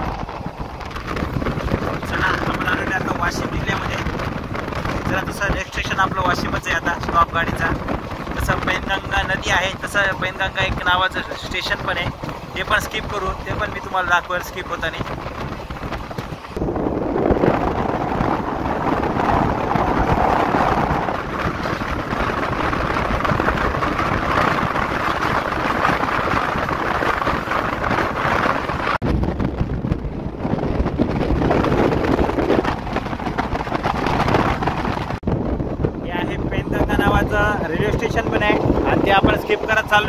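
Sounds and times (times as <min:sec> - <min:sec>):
wind on microphone: 0:00.0 - 0:40.0.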